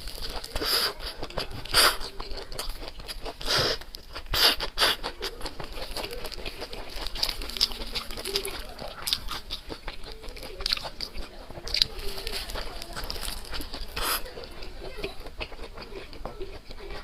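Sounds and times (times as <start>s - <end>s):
mouth clicks: 0.0s - 17.0s
person chewing and crunching food: 0.0s - 17.0s.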